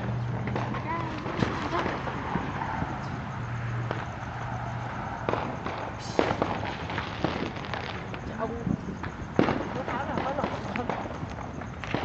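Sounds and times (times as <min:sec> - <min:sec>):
firework cracks and pops: 0:00.0 - 0:03.0, 0:05.2 - 0:12.0.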